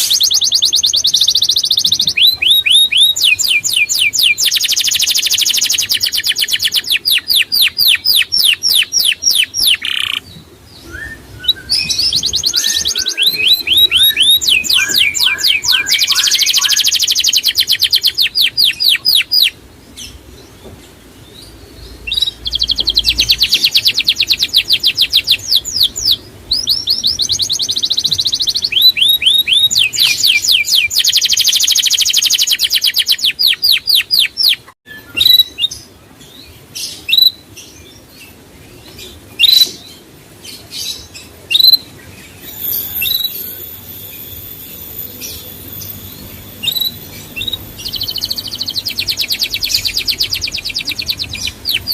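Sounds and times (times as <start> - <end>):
songbird trilling: 0.0 - 20.2, 21.8 - 35.7, 41.5 - 51.9.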